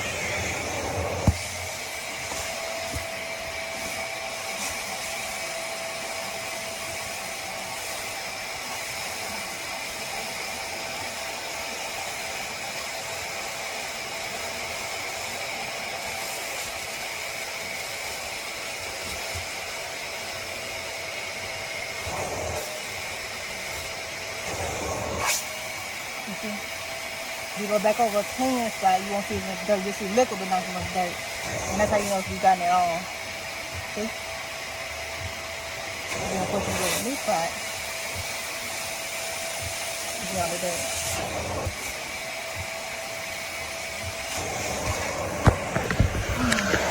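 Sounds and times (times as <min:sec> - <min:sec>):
carpet cleaner running: 0:00.0 - 0:46.9.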